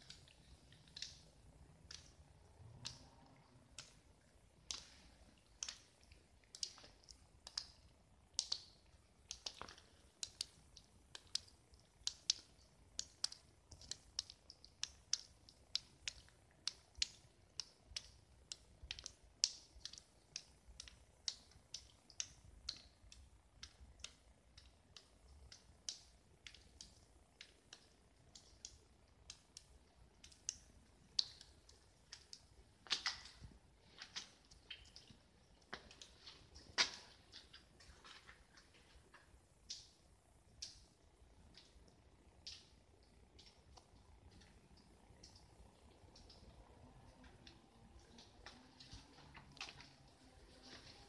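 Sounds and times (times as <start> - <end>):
sharp irregular clicks: 0.0 - 51.0.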